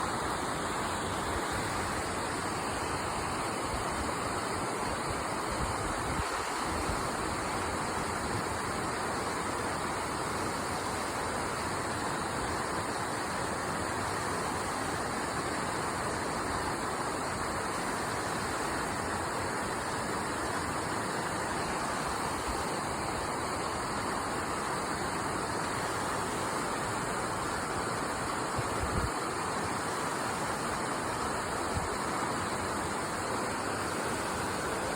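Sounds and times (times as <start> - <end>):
river rushing over stones: 0.0 - 34.9.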